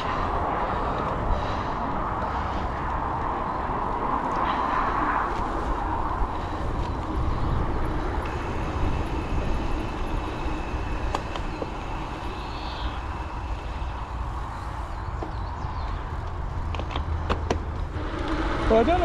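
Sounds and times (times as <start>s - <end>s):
road traffic rumble: 0.0s - 19.0s
wind buffeting microphone: 0.0s - 19.0s.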